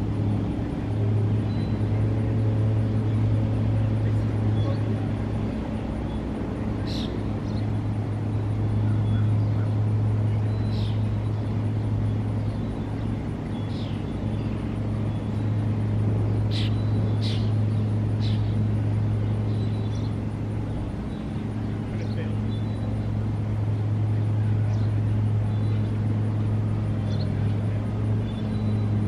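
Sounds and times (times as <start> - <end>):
low mechanical hum: 0.0 - 29.0
birds chirping: 0.2 - 29.0.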